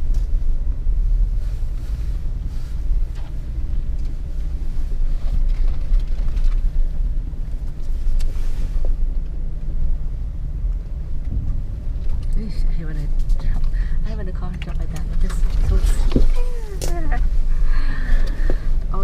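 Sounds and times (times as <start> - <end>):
off-road vehicle rumbling from inside: 0.0 - 19.0.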